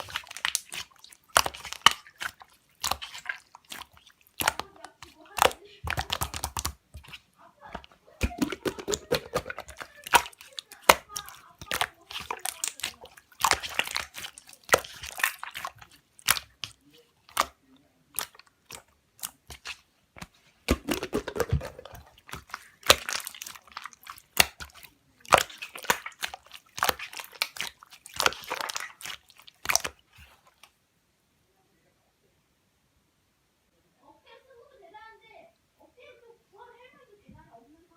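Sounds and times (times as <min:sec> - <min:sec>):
slime squished by hand: 0:00.0 - 0:30.8.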